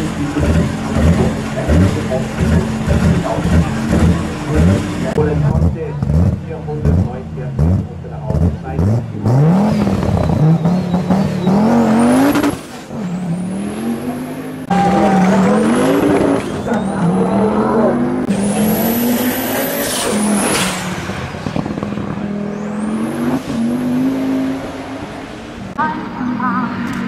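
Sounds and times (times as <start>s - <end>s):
race car engines accelerating: 0.0s - 27.0s.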